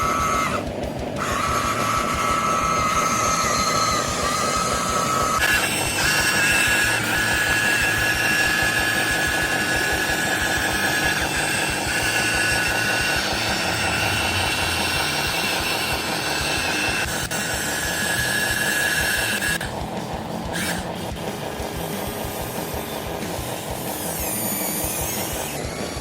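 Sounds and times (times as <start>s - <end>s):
fast low buzz: 0.0s - 26.0s
toy motor high whine: 0.0s - 26.0s.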